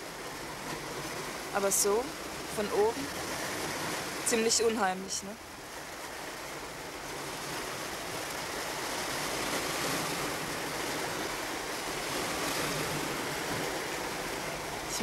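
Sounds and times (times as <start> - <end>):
sea surf washing: 0.0 - 15.0.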